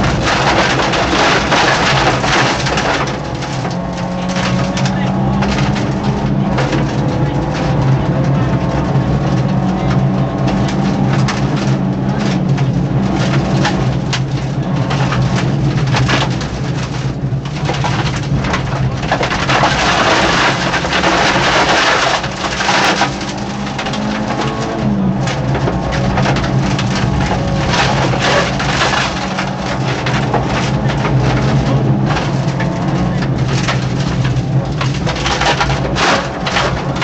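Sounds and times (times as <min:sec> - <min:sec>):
rally car engine running hard: 0:00.0 - 0:37.0
stones rattling against car: 0:00.0 - 0:37.0.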